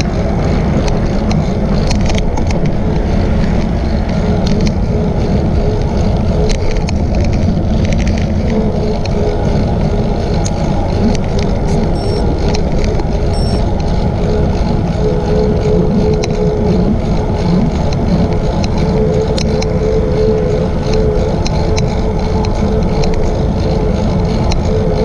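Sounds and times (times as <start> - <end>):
faint hum: 0.0 - 25.0
wind noise on microphone: 0.0 - 25.0.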